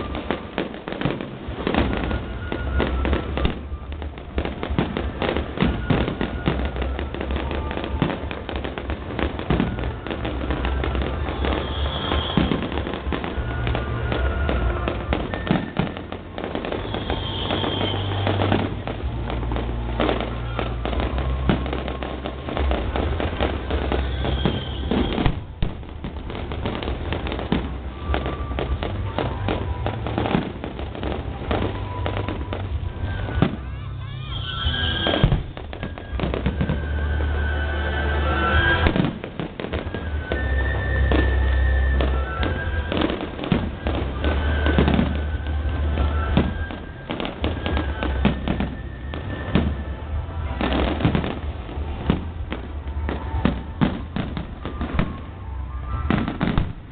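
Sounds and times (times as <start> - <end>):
crowd voices: 0.0 - 56.9
fireworks bangs and crackling: 0.0 - 56.9
fireworks hissing streaks: 0.0 - 56.9.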